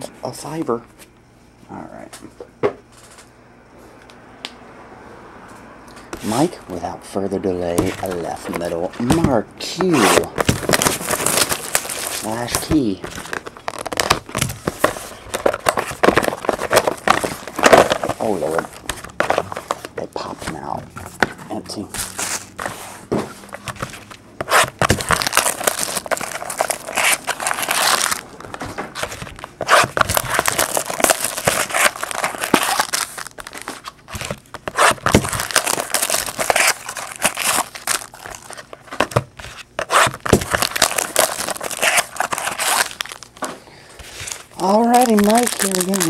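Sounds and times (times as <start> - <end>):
foil wrappers crinkling: 7.8 - 46.0.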